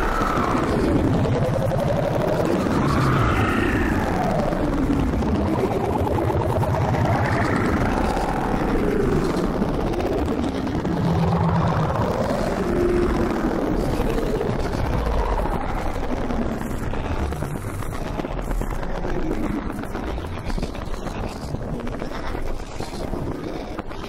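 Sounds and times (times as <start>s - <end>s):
rumbling electronic noise drone: 0.0s - 24.0s.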